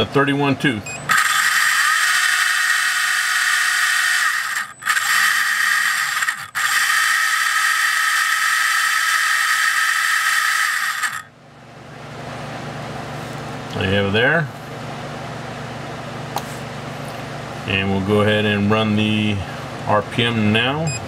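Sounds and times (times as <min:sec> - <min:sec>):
high whine of motor and gears: 0:00.0 - 0:21.0.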